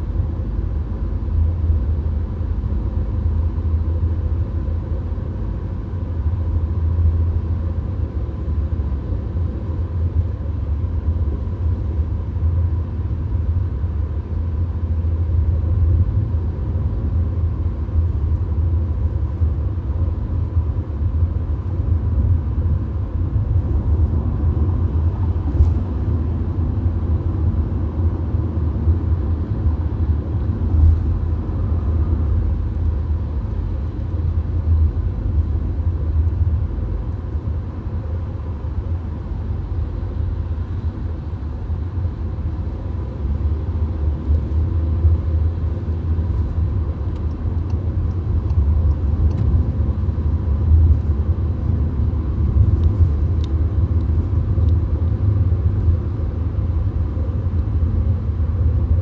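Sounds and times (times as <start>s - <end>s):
road and engine rumble inside car: 0.0s - 59.0s.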